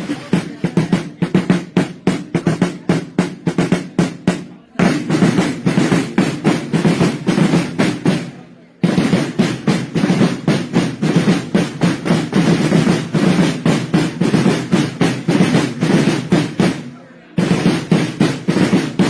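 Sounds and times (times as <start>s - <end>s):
snare drums rolling march: 0.0s - 19.0s.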